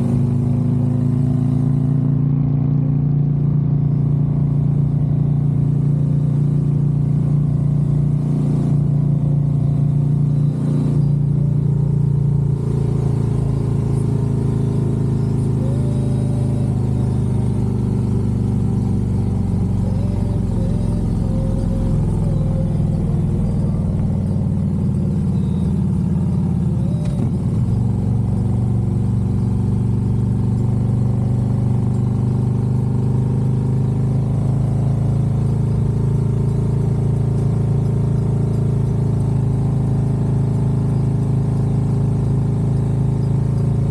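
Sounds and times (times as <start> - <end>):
motorcycle engine and exhaust: 0.0 - 43.9.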